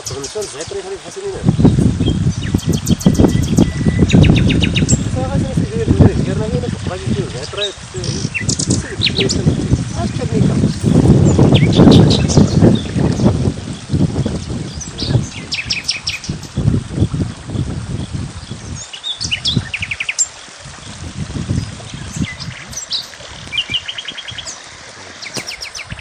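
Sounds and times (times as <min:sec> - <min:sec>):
small birds chirping: 0:00.0 - 0:05.2, 0:07.0 - 0:16.7, 0:17.5 - 0:26.0.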